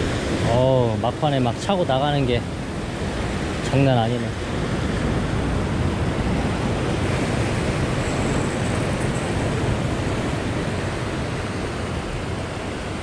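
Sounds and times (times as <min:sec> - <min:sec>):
surf washing over rock: 0:00.0 - 0:13.0.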